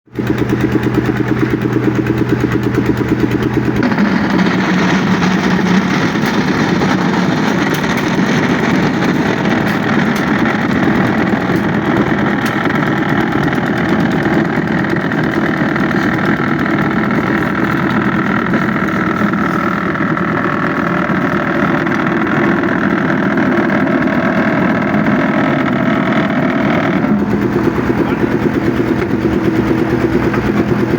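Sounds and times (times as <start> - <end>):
machine engine running: 0.1 - 30.9.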